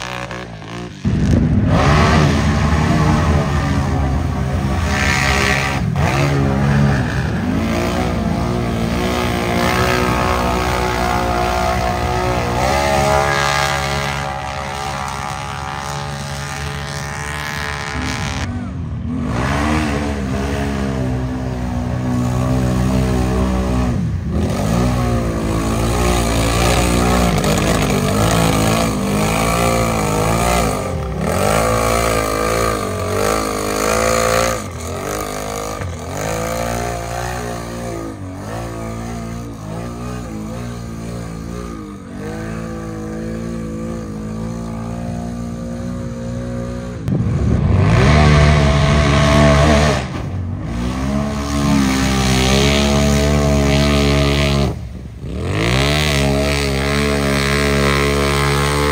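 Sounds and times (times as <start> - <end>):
off-road engine revving hard: 0.0 - 58.9.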